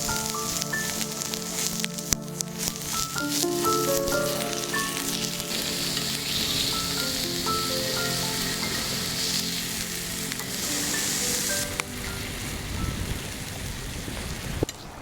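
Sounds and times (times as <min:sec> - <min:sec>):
soft melodic background music: 0:00.0 - 0:14.0
food sizzling in frying: 0:00.0 - 0:14.6.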